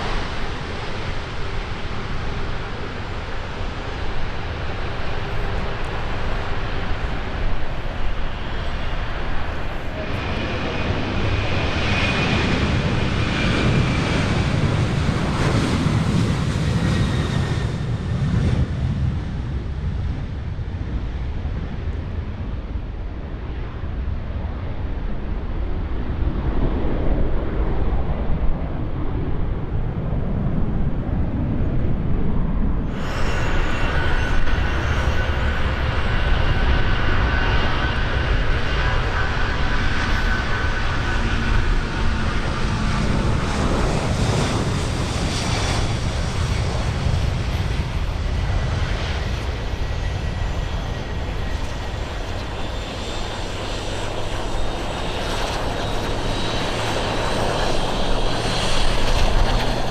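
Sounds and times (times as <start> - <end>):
high-pitched engine whine: 0.0 - 24.8, 32.6 - 59.9
jet engines rumbling: 0.0 - 59.9
wind on microphone: 0.0 - 59.9.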